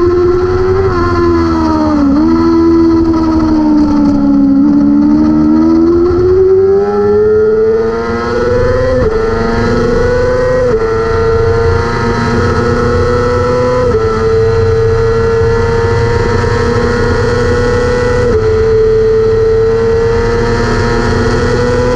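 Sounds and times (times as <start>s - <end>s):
motorcycle engine at full throttle: 0.0s - 21.9s.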